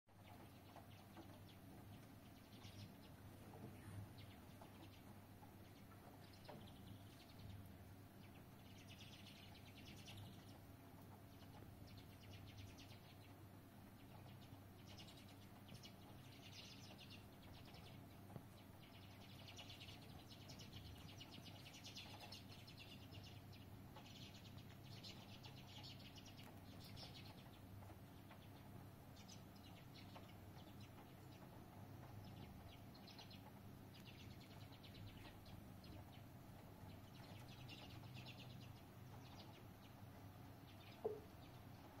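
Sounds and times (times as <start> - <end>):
small songbirds chirping: 0.1 - 42.0
steady low hum: 0.1 - 42.0.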